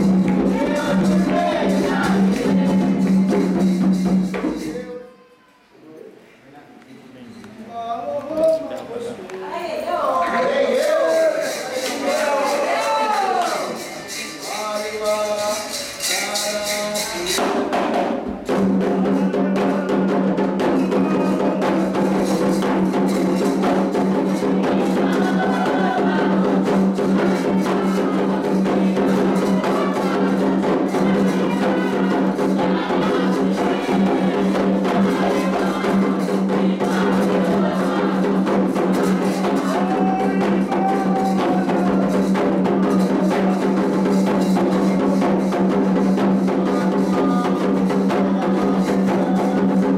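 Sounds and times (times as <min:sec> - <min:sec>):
hand drums playing: 0:00.0 - 0:05.1, 0:10.8 - 0:49.9
voices singing: 0:00.0 - 0:05.6, 0:07.7 - 0:49.9.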